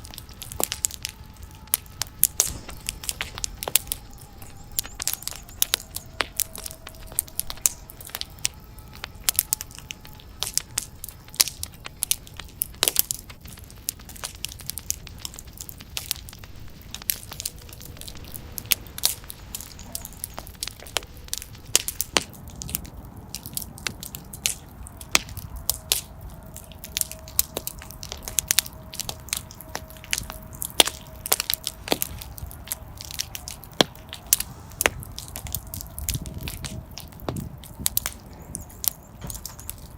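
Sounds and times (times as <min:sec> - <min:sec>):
low rush of flame: 0:00.0 - 0:39.9
sharp pops and snaps: 0:00.0 - 0:39.9
wood fire crackling: 0:00.0 - 0:39.9.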